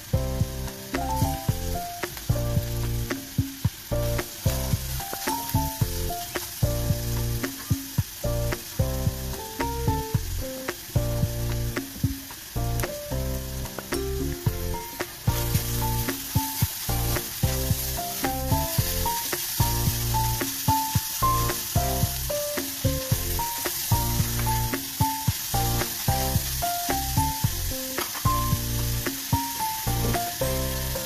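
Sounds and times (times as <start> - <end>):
background music: 0.0 - 31.0
carrots sizzling in hot oil: 0.0 - 31.0.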